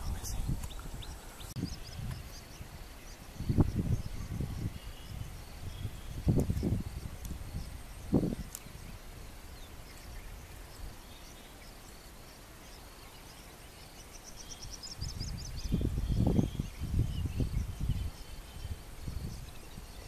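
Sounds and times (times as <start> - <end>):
birds chirping: 0.0 - 20.0
insects chirping: 0.0 - 20.0.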